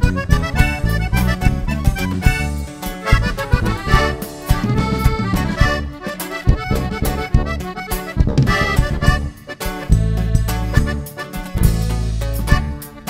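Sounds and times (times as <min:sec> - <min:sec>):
accordion melody: 0:00.0 - 0:13.0
bass line: 0:00.0 - 0:13.0.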